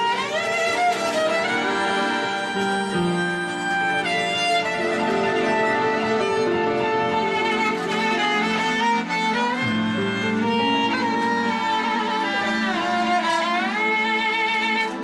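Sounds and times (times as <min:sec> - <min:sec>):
lower strings: 0:00.0 - 0:15.0
violin melody with vibrato: 0:00.0 - 0:15.0.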